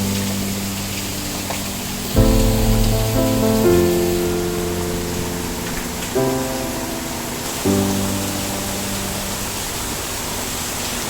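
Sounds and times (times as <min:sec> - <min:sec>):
music of held chords: 0:00.0 - 0:10.4
rain falling: 0:00.0 - 0:11.0.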